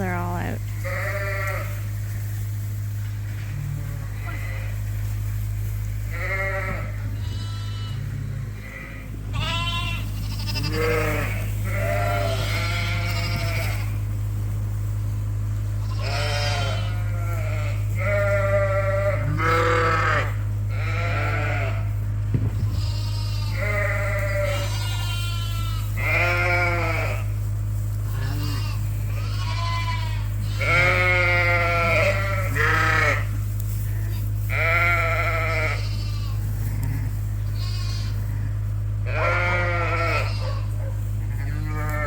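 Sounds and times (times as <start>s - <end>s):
sheep and lambs bleating: 0.0s - 2.0s, 3.4s - 5.1s, 6.0s - 14.2s, 15.1s - 42.0s
steady low hum: 0.0s - 42.0s.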